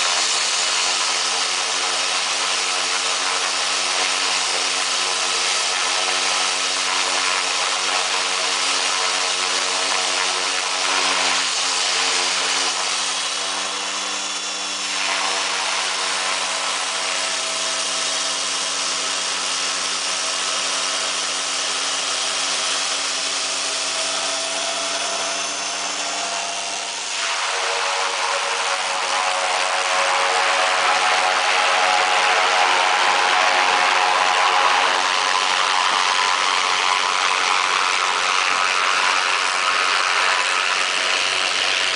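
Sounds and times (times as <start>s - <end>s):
turboprop engine humming and whining: 0.0s - 41.9s.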